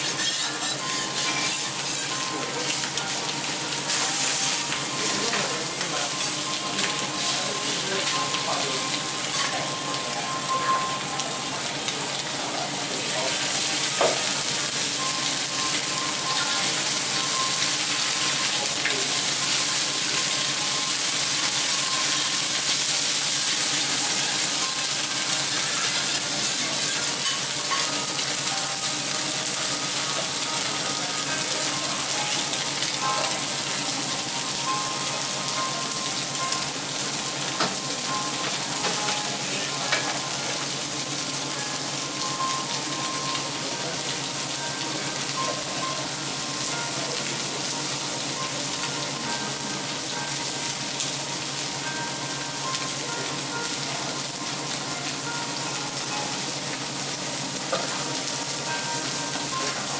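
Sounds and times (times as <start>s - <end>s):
food sizzling on griddle: 0.0s - 59.9s.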